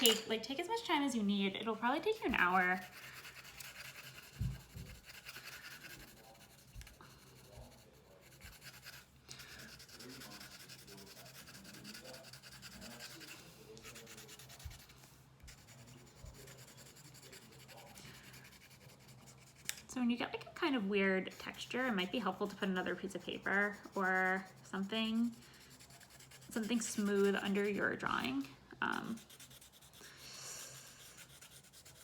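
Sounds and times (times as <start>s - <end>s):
pencil scratching on paper: 1.7s - 19.8s, 20.6s - 32.0s.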